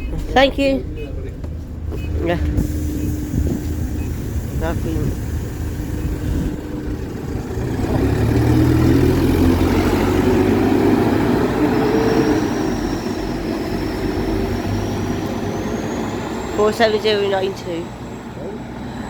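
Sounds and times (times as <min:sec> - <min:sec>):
bus engine revving: 0:00.0 - 0:19.0.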